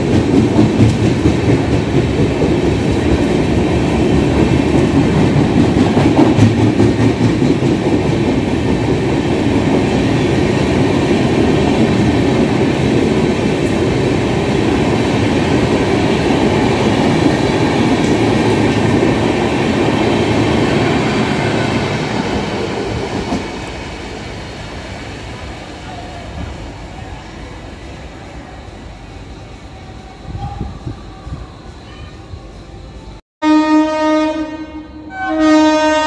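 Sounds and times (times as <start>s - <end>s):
train wheels on rails: 0.0s - 33.2s.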